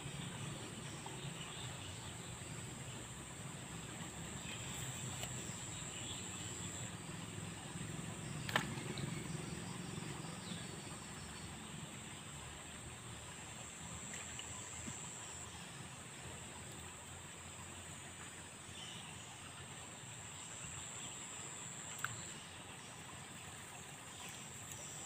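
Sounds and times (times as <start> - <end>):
low rumble of air or water: 0.0 - 25.0.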